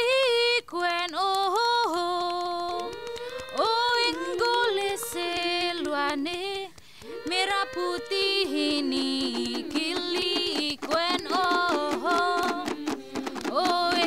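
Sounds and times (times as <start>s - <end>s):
women singing in harmony: 0.0s - 14.0s.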